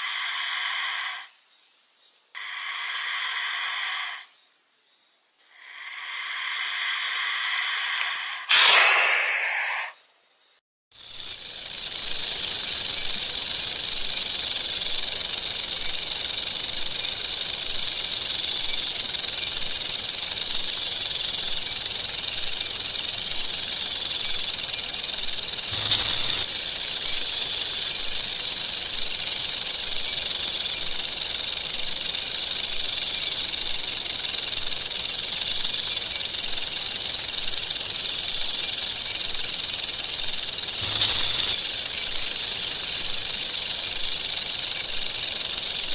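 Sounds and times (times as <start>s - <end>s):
snake hissing: 0.0s - 1.3s, 2.4s - 4.3s, 5.5s - 10.0s, 11.4s - 45.9s.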